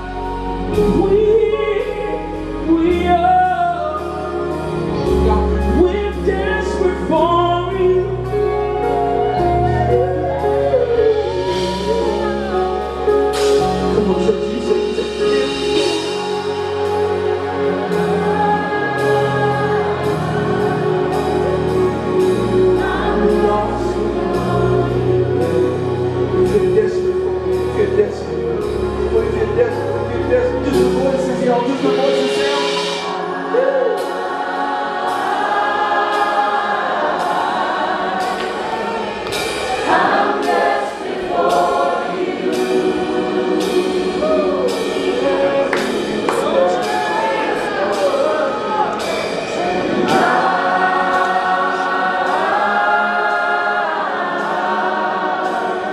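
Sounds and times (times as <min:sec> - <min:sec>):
sustained chords and bass: 0:00.0 - 0:55.9
voices singing held notes: 0:00.0 - 0:55.9.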